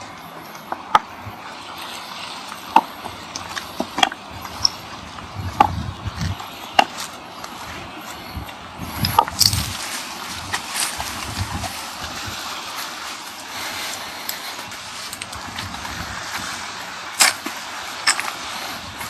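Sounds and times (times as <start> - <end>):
sea breeze and surf: 0.0 - 19.0
footsteps of a walker: 0.1 - 19.0.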